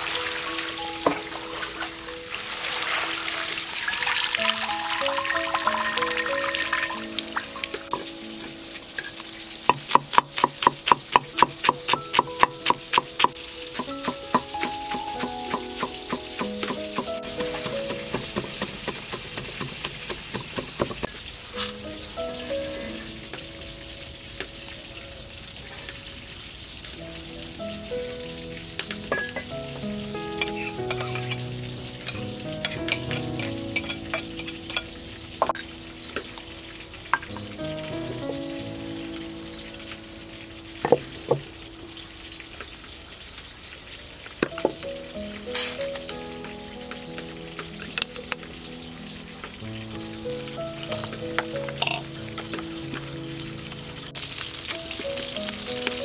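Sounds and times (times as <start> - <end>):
slow instrumental music: 0.0 - 20.3, 21.1 - 42.9, 44.4 - 56.0.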